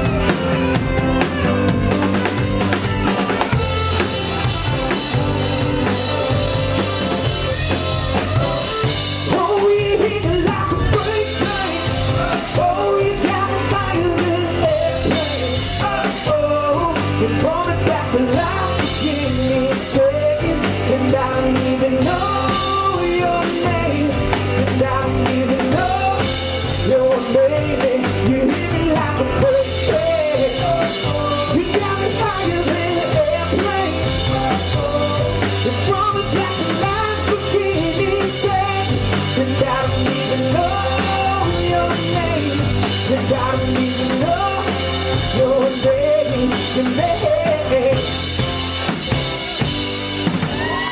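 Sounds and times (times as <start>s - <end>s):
man singing lead: 0.0s - 49.9s
bass: 0.0s - 50.9s
drums: 0.0s - 50.9s.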